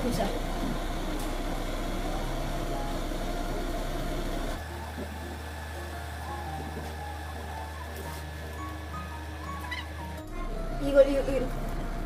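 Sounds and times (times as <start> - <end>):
induction cooktop electrical hum: 0.0 - 12.0.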